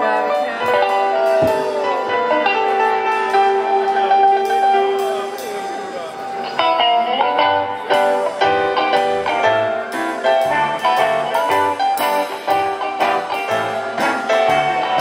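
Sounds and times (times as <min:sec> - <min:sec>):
band playing instrumental: 0:00.0 - 0:15.0.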